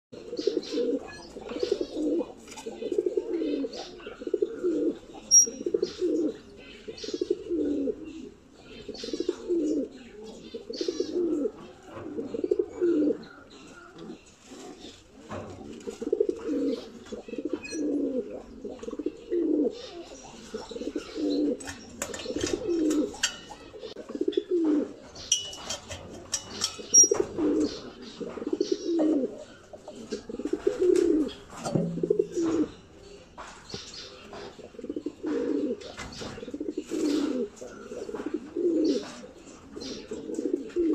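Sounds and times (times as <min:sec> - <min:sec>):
pigeons cooing: 0:00.2 - 0:40.9.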